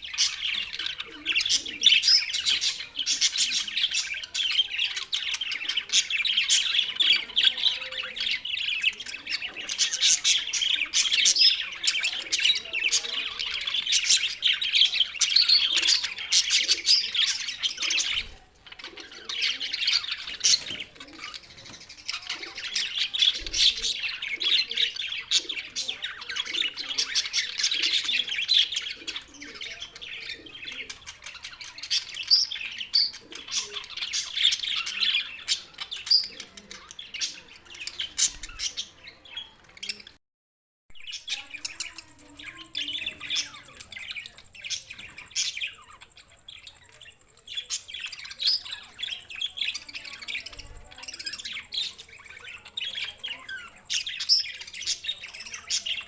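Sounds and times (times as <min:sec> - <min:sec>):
budgerigars chattering: 0:00.0 - 0:40.2, 0:41.0 - 0:56.0.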